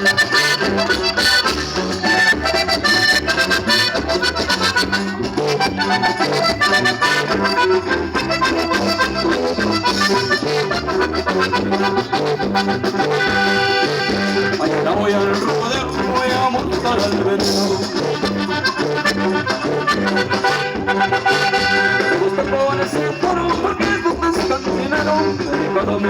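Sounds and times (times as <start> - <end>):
accordion music: 0.0 - 26.0
steady beat: 0.0 - 26.0
walking bass line: 0.0 - 26.0.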